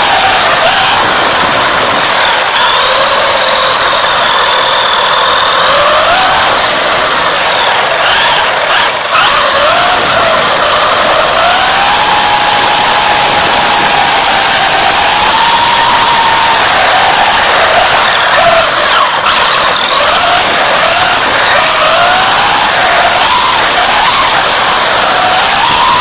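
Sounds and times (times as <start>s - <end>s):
electric motor and gears whining: 0.0s - 26.0s
tyre noise on asphalt: 0.0s - 26.0s.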